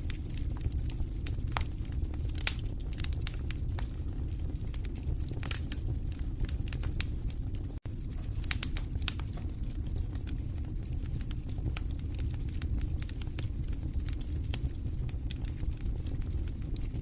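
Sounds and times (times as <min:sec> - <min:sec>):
fire crackling and popping: 0:00.0 - 0:17.0
fire rumbling in fireplace: 0:00.0 - 0:17.0.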